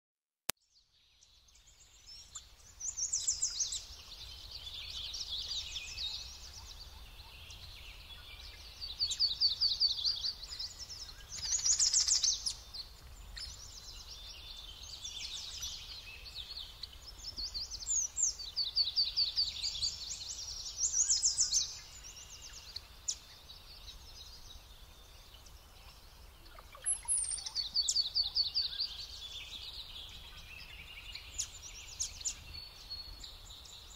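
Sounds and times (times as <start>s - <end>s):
faint low background noise: 0.6s - 33.9s
songbirds singing trills: 0.7s - 33.9s.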